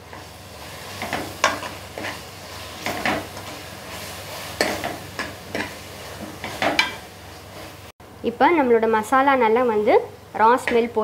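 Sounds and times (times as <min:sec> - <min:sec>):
faint sizzle: 0:00.0 - 0:11.0.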